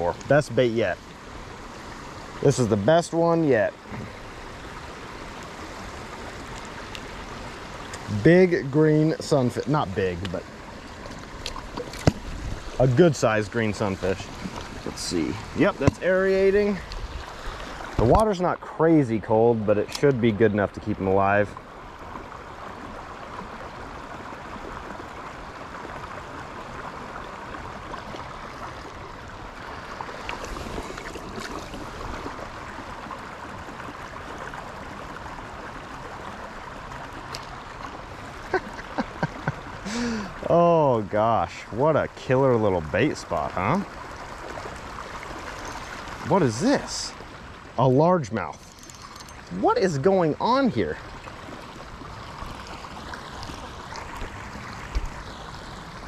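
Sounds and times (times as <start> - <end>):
trickling bubbling water: 0.0 - 56.0.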